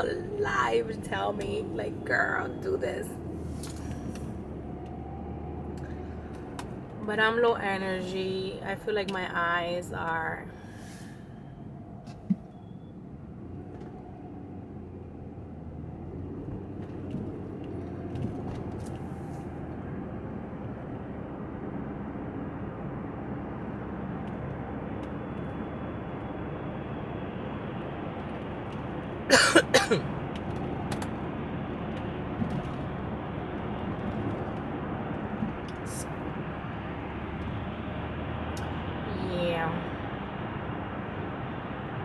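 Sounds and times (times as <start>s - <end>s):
car cabin road noise: 0.0s - 42.0s.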